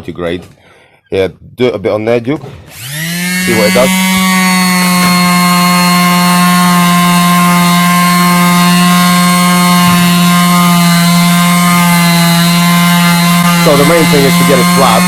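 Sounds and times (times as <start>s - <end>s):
electric sander whining: 2.7s - 15.0s.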